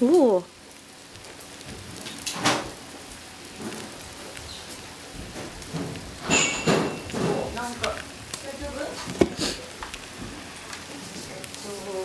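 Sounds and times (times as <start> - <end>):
charcoal fire crackling: 0.0 - 12.0
fish grilling on skewers: 0.0 - 12.0
sharp fire snaps: 0.0 - 12.0.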